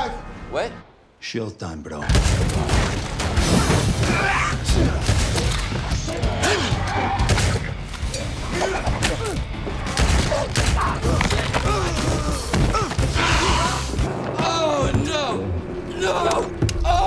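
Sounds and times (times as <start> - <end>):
bass-heavy film score: 2.0 - 17.0.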